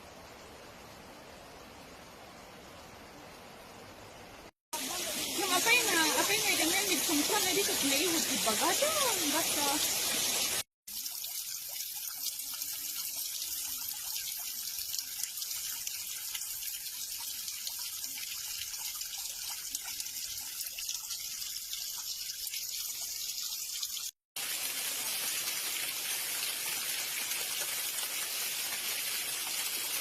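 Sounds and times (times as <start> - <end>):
small waterfall splashing: 4.7 - 30.0.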